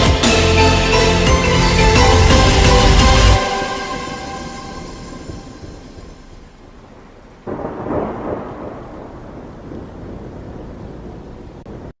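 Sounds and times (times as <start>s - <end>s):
rushing rumbling noise: 0.0s - 11.9s.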